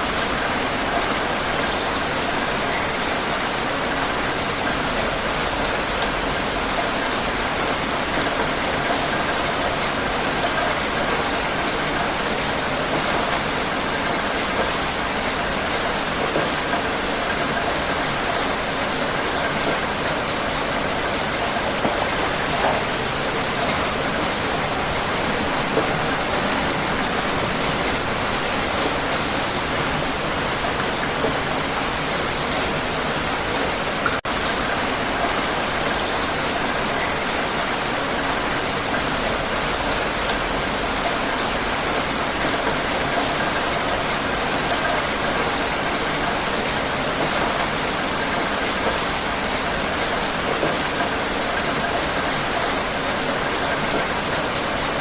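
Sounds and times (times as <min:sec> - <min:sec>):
heavy rain falling: 0:00.0 - 0:55.0
louder raindrops: 0:00.0 - 0:55.0.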